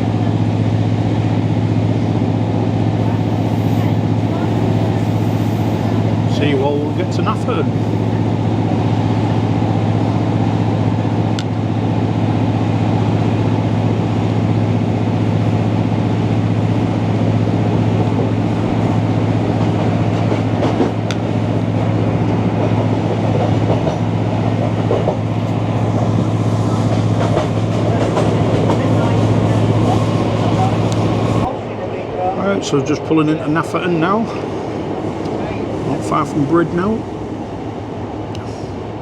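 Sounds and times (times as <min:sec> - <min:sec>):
diesel engine drone: 0:00.0 - 0:39.0
train wheels rumbling on track: 0:00.0 - 0:39.0.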